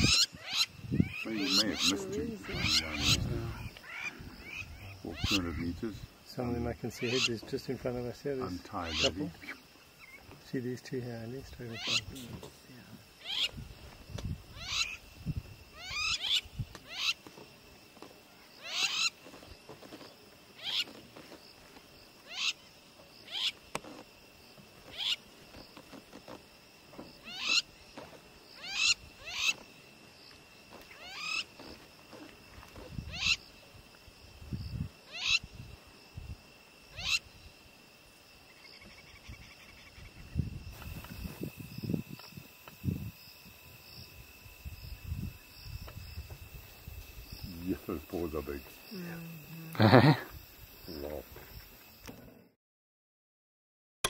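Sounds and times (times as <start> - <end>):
high insect trill: 0.0 - 52.3.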